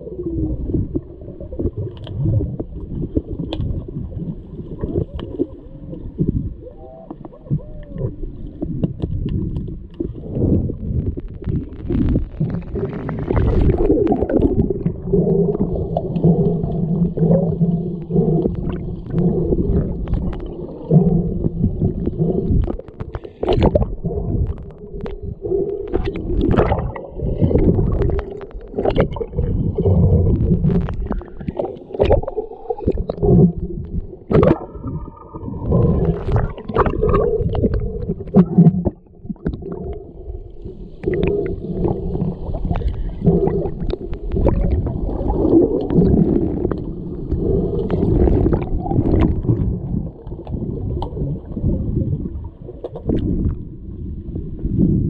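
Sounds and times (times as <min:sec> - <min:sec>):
muffled underwater gurgling: 0:00.0 - 0:55.0.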